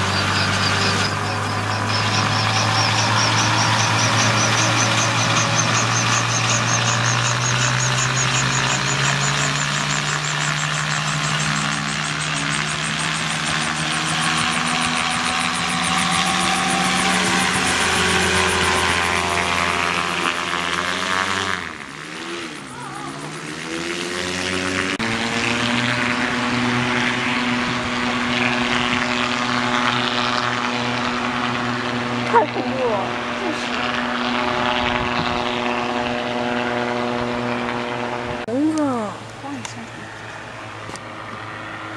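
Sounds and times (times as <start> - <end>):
aircraft engine and propeller: 0.0 - 41.9.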